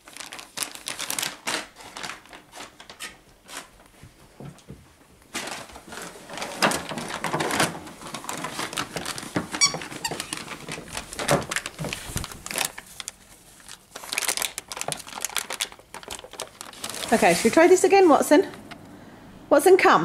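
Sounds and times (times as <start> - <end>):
puppy chewing paper packet: 0.0 - 3.9, 5.3 - 18.5
paper crackling and rustling: 0.0 - 18.6.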